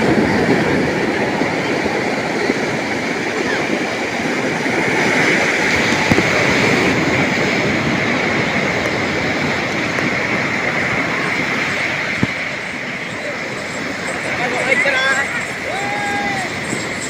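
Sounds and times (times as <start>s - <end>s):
ocean surf roaring: 0.0s - 17.0s.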